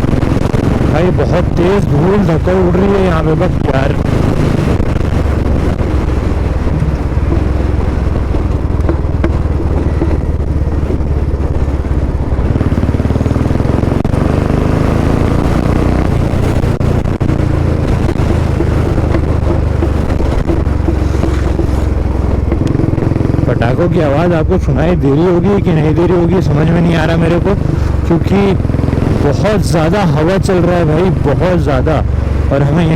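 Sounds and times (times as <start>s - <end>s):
motorcycle engine pulling hard: 0.0s - 32.9s
wind buffeting microphone: 0.0s - 32.9s.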